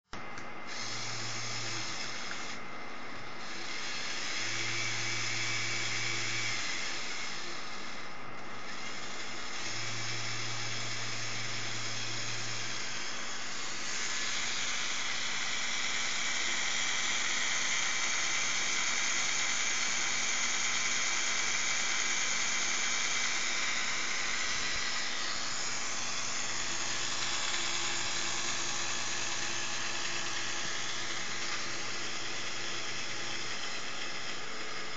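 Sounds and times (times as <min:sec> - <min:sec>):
toy motor whirring gears: 0:00.7 - 0:02.6, 0:03.4 - 0:34.9.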